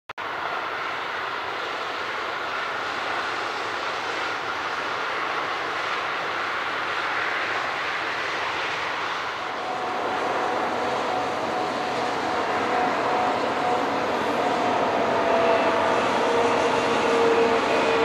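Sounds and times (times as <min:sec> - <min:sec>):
jet engines roaring: 0:00.2 - 0:18.0.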